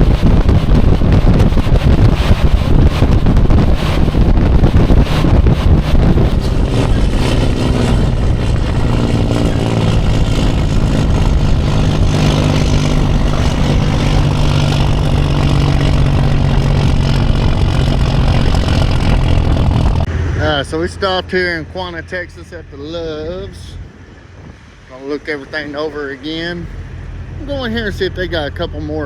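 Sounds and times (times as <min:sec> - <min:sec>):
truck engine drone: 0:00.0 - 0:29.0
wind buffeting microphone: 0:00.0 - 0:29.0.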